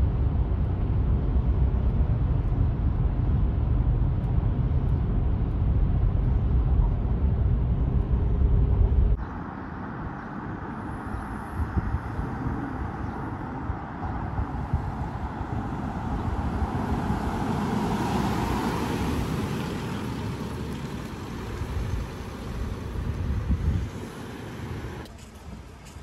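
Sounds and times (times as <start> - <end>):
car driving rumble: 0.0 - 26.0.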